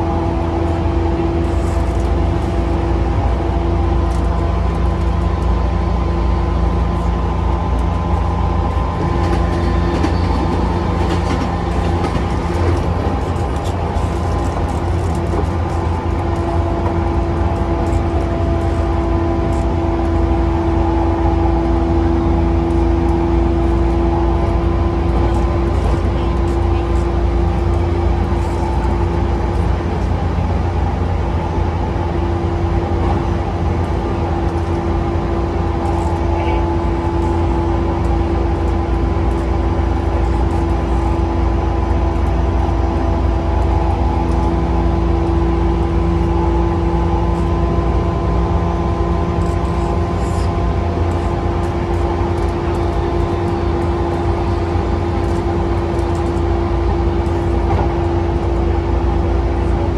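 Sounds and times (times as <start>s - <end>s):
train humming tone: 0.0s - 59.9s
train wheels rumbling on rail: 0.0s - 59.9s.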